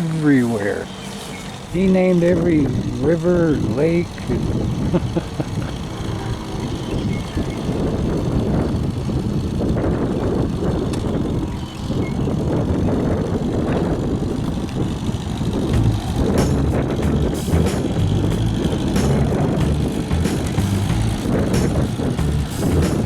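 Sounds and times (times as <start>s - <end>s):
two-stroke outboard motor running: 0.0s - 23.0s
wind on microphone: 0.0s - 23.0s.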